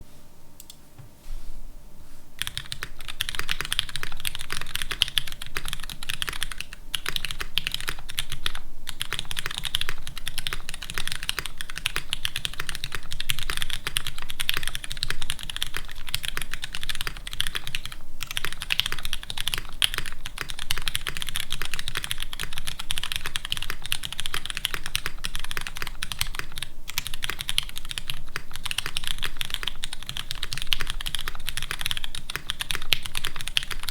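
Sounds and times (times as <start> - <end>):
fast mechanical keyboard typing: 2.4 - 33.9.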